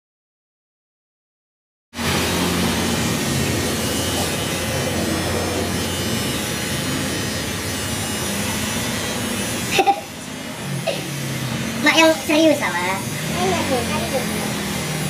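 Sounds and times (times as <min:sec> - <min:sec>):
electric hair clippers buzzing: 0:02.0 - 0:15.0.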